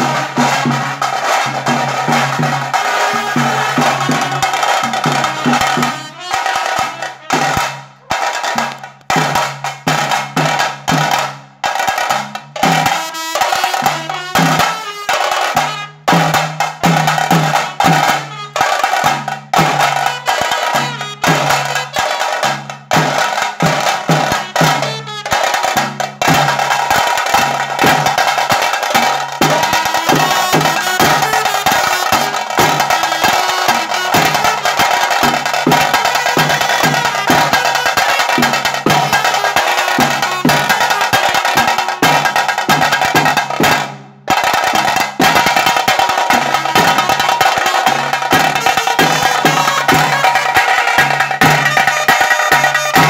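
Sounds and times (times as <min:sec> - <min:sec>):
fast stick strikes on drums: 0:00.0 - 0:53.0.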